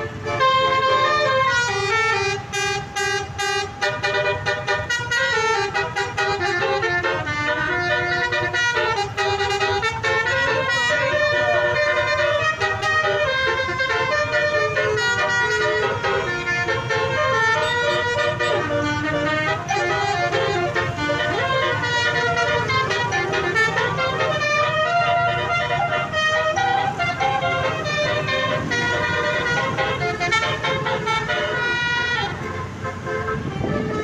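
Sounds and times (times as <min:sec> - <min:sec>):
musical bus air horns: 0:00.0 - 0:34.0.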